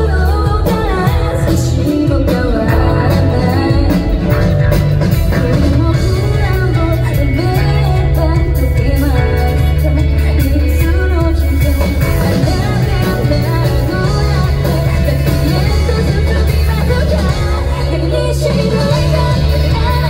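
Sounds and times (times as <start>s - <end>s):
bass guitar: 0.0s - 20.0s
driving drum beat: 0.0s - 20.0s
electric guitars: 0.0s - 20.0s
keyboard: 0.0s - 20.0s
woman singing: 0.0s - 20.0s.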